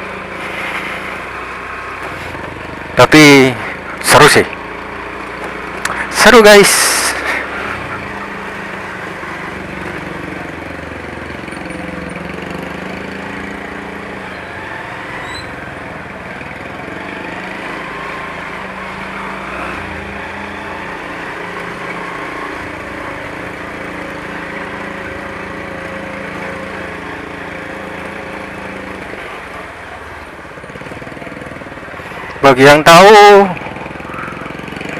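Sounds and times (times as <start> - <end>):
road and wind noise: 0.0 - 34.9
motorcycle engine running: 1.0 - 34.9.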